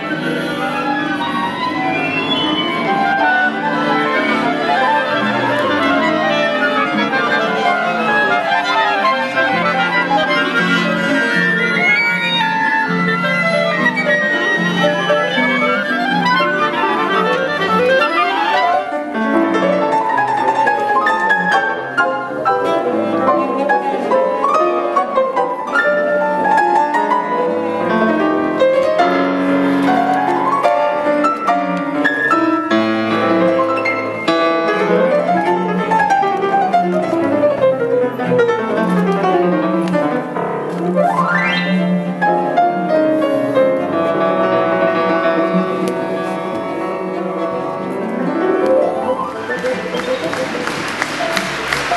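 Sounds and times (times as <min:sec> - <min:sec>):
orchestral bowed strings: 0:00.0 - 0:51.9
piano: 0:00.0 - 0:51.9.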